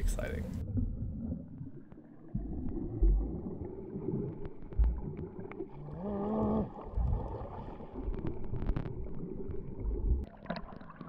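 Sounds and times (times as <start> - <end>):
underwater sloshing: 0.0 - 11.0.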